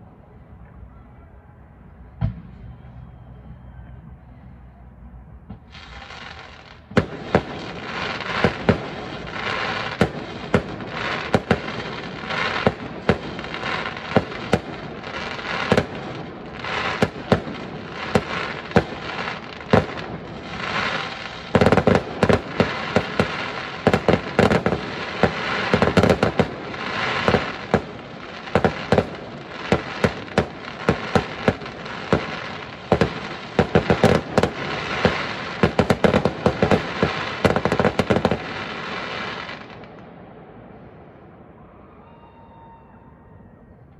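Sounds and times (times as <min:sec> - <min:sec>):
continuous noisy din: 0:00.0 - 0:38.3.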